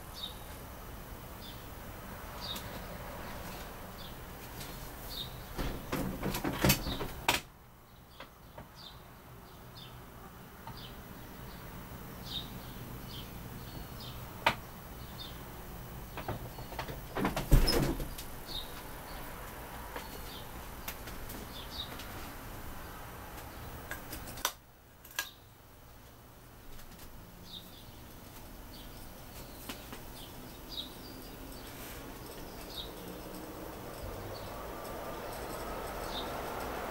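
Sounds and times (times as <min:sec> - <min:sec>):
ceiling fan motor hum: 0:00.0 - 0:36.9.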